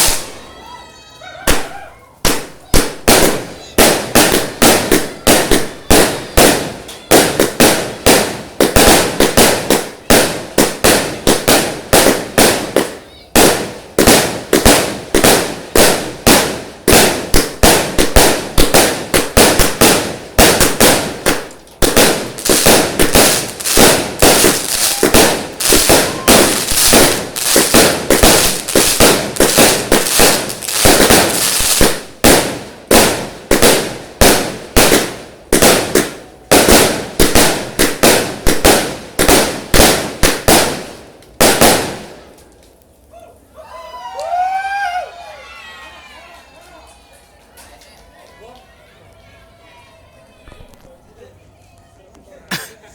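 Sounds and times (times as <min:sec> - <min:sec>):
fireworks bangs: 0:00.0 - 0:42.6.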